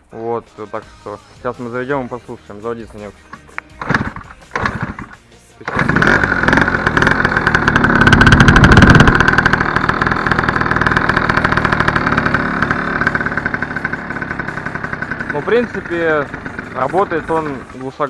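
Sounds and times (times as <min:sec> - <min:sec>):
scooter engine starting and idling: 0:02.8 - 0:18.0.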